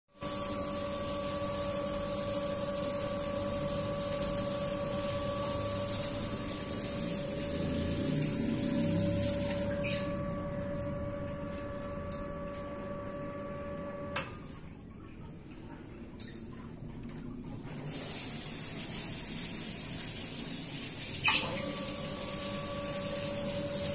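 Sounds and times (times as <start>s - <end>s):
water pump humming: 0.1s - 23.9s.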